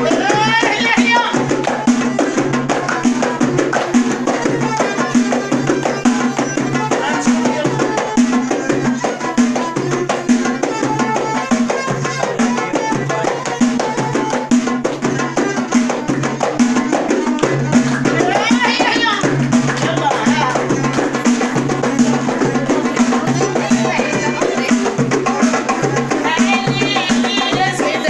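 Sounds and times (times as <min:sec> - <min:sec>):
frame drum fast rhythm: 0:00.0 - 0:28.0
violin: 0:00.0 - 0:28.0
hand clapping: 0:00.9 - 0:28.0.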